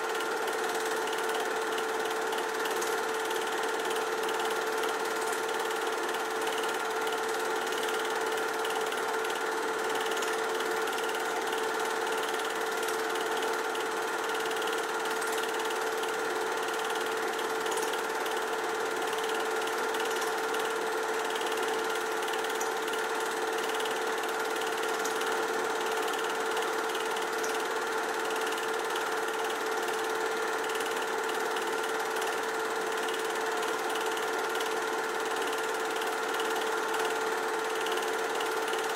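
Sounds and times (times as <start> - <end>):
film projector clatter: 0.0 - 38.9.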